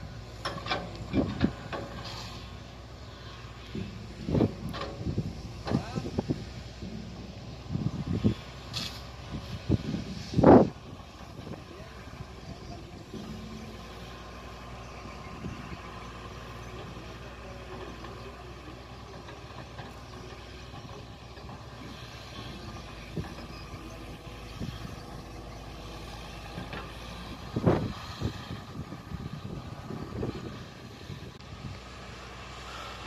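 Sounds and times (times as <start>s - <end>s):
distant excavator diesel engine running: 0.0s - 33.0s.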